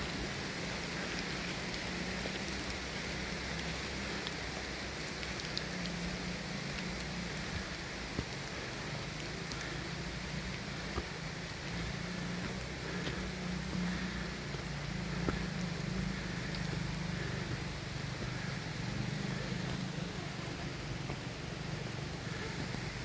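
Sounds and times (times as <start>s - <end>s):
waterfall rushing: 0.0s - 23.0s
faint ticks: 1.2s - 23.0s.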